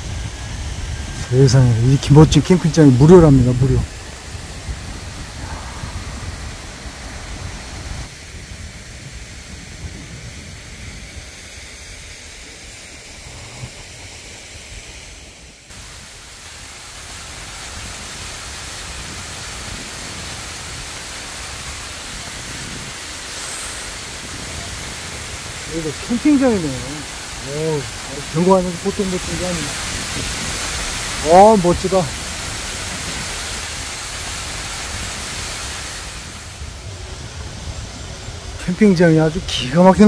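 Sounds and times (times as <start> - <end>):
outdoor background hiss: 0.0 - 40.0.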